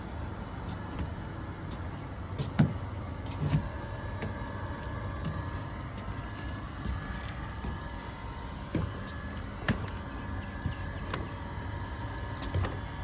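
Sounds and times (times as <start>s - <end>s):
machine hum with faint whine: 0.0s - 13.0s.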